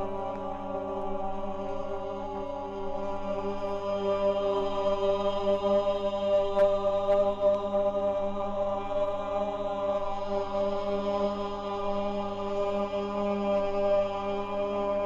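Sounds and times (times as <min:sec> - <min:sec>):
chanted vocal drone: 0:00.0 - 0:15.0.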